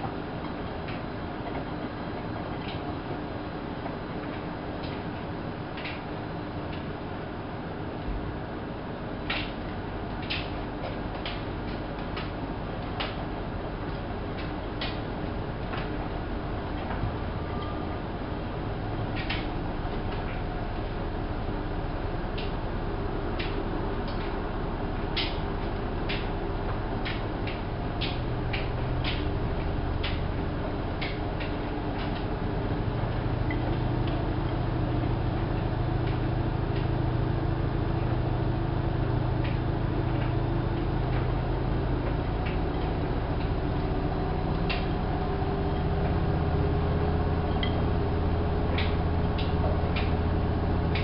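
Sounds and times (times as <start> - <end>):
washing machine motor hum: 0.0 - 51.0.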